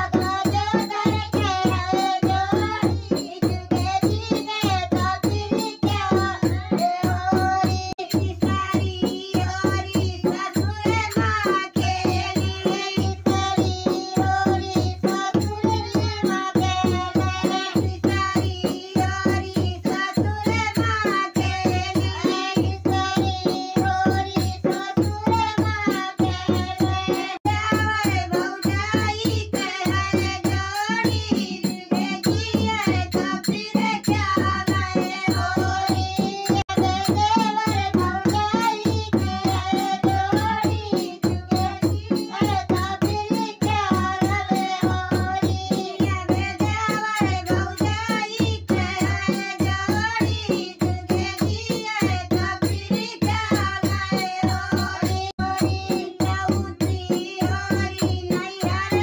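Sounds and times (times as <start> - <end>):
hand drum beat: 0.0 - 59.0
women singing folk song: 0.0 - 59.0.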